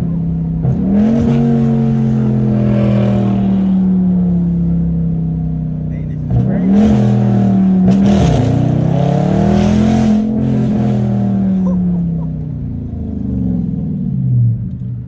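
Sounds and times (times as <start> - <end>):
car engine under hard throttle: 0.0 - 15.0.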